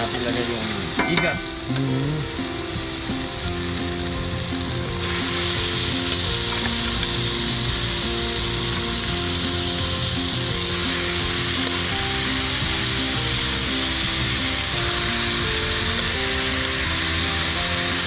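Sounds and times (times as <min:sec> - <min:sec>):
eel sizzling in hot oil: 0:00.0 - 0:18.0.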